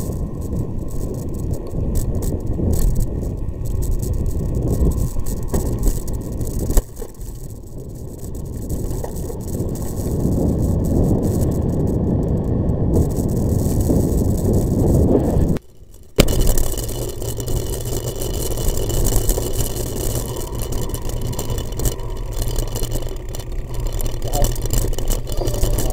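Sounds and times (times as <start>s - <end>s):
vehicle rattling: 0.0s - 25.9s
wheels rumbling on gravel: 0.0s - 25.9s.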